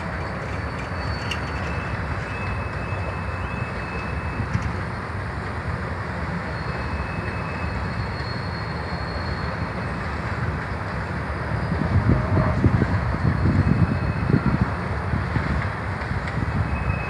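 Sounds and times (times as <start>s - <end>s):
wheels squealing: 0.0s - 4.9s, 6.2s - 15.6s, 16.3s - 17.0s
train wheels rumbling on rail: 0.0s - 17.0s.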